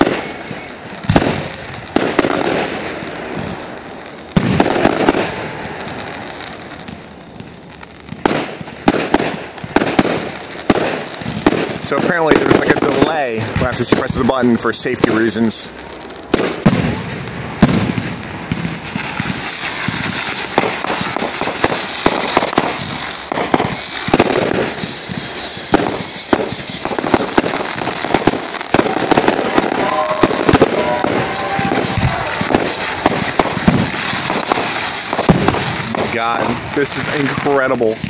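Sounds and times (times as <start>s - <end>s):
fireworks bangs and crackle: 0.0s - 38.0s
fireworks whistles falling in pitch: 0.0s - 38.0s.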